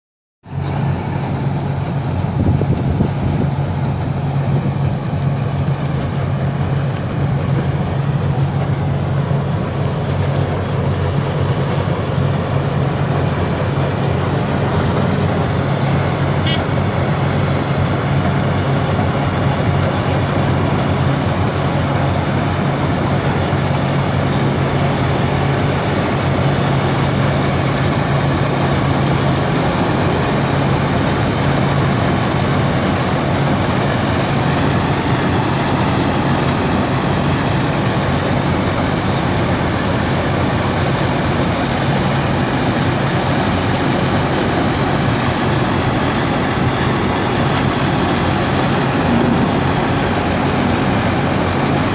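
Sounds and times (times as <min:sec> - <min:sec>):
diesel engine hum: 0:00.4 - 0:51.9
harvesting machinery noise: 0:00.5 - 0:51.9.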